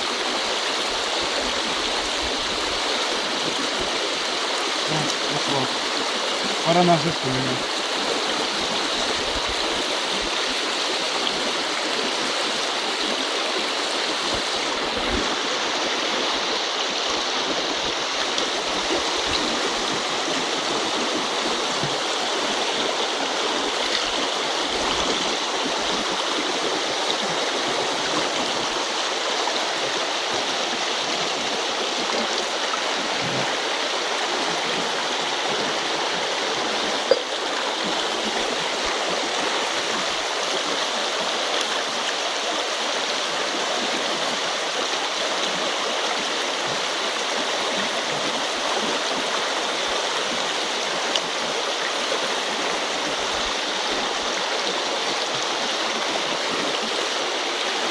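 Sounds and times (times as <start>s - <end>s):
river current rushing: 0.0s - 57.9s.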